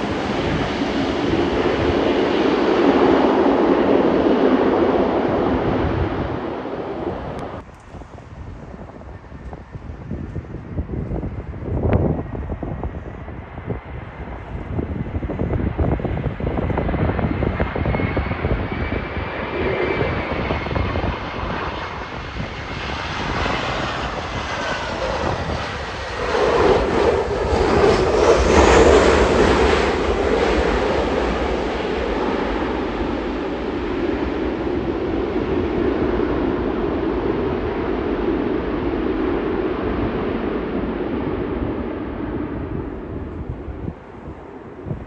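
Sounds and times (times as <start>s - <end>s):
airliner engines whining: 0.0s - 45.0s
gusty wind on microphone: 0.0s - 45.0s.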